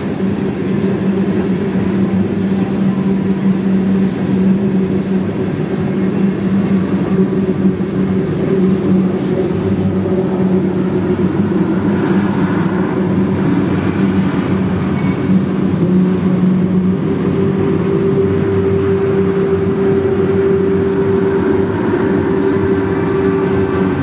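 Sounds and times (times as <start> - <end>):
constant low hum: 0.0 - 24.0
freight train wheels rumbling: 0.0 - 24.0.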